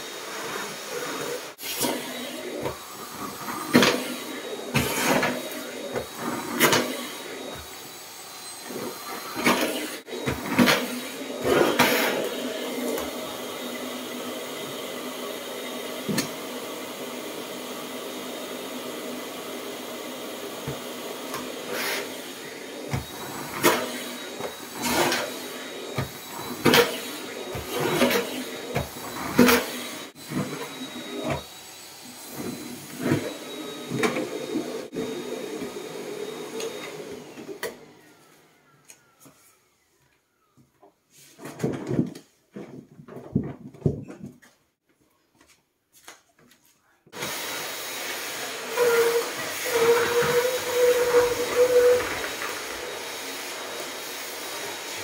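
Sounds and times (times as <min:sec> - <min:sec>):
vacuum cleaner running: 0:00.0 - 0:38.5, 0:47.1 - 0:55.0.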